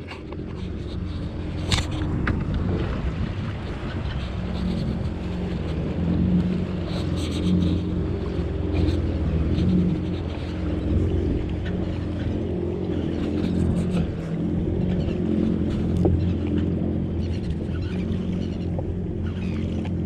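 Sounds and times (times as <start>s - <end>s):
jet ski engine droning: 0.0s - 20.0s.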